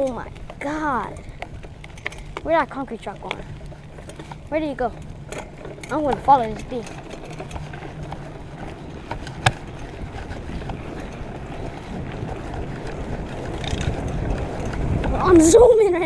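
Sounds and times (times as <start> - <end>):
tyres on wet pavement: 0.0 - 16.0
wind rushing over microphone: 0.0 - 16.0.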